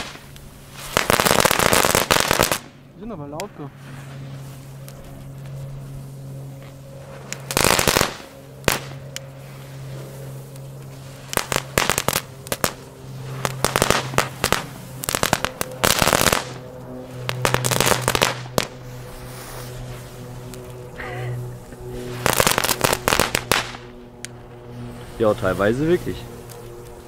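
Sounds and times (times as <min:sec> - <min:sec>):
firework crackling: 0:00.0 - 0:27.0
spinner firework humming: 0:00.0 - 0:27.0.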